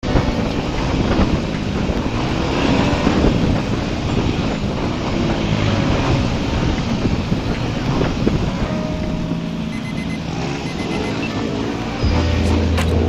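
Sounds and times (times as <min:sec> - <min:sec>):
vehicle engine running: 0:00.0 - 0:13.0
wind noise on microphone: 0:00.0 - 0:13.0.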